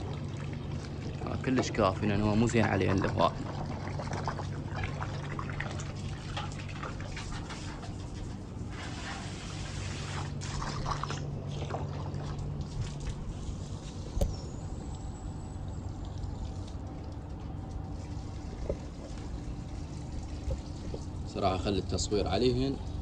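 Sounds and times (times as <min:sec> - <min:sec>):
low steady hum: 0:00.0 - 0:23.0
water pouring and trickling: 0:00.0 - 0:23.0.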